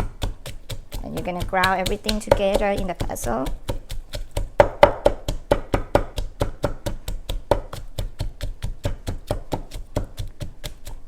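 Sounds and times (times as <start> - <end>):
pestle pounding in mortar: 0.0 - 11.0.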